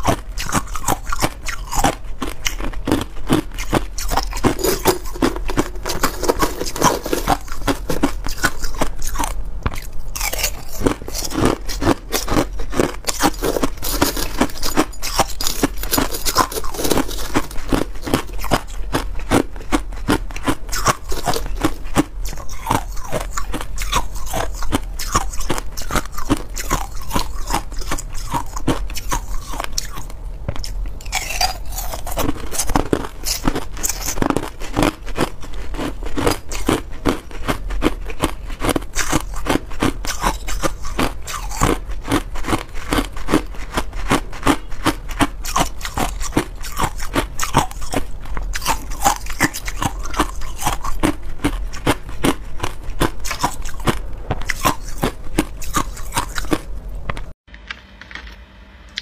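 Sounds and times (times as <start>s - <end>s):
crushed ice being chewed: 0.0s - 57.3s.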